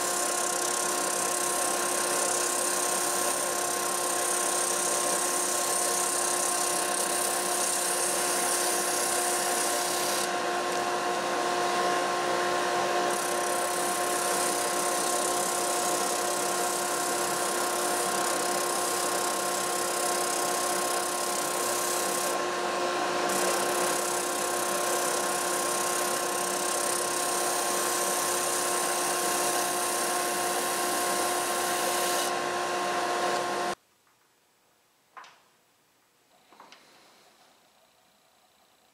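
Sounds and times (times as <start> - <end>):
sanding machine whine: 0.0 - 33.8.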